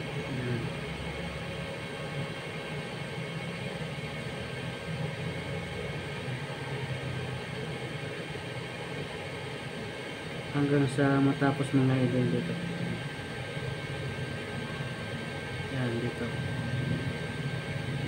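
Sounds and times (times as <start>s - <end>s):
welding machine humming: 0.0s - 18.0s.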